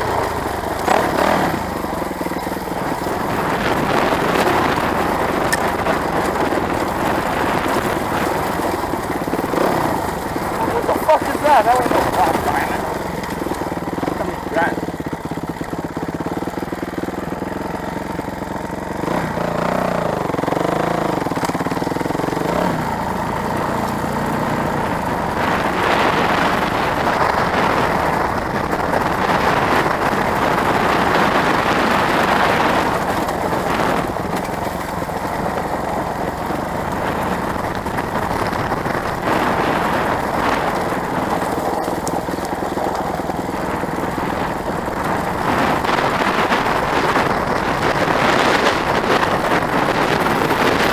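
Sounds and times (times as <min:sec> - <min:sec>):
dirt bike engine revving: 0:00.0 - 0:50.9
wind rushing over microphone: 0:00.0 - 0:50.9.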